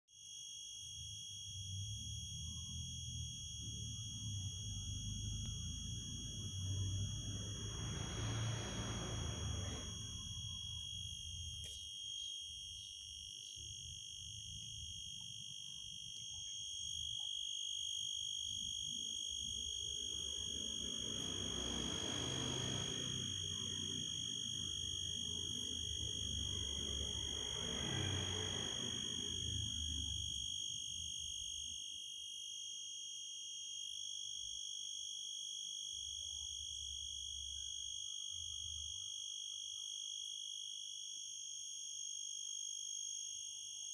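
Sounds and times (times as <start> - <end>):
steady high-pitched whine: 0.1 - 42.0.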